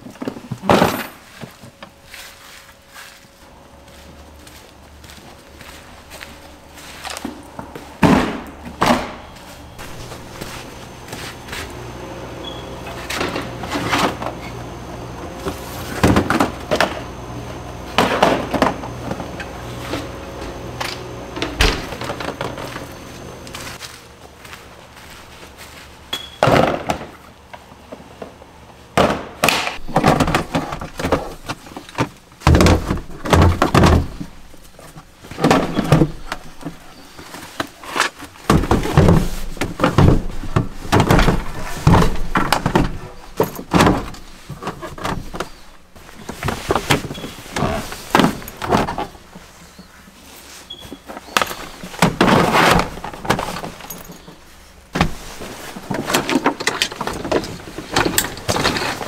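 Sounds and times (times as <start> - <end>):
cases thudding and scraping: 5.6 - 23.8, 27.9 - 49.9, 50.6 - 59.0.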